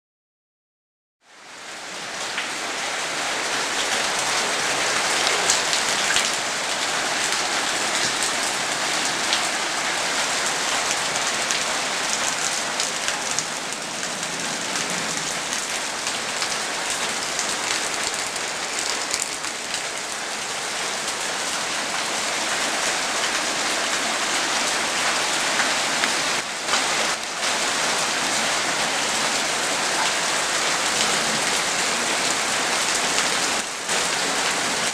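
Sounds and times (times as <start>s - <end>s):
heavy rain pouring: 1.3s - 34.9s.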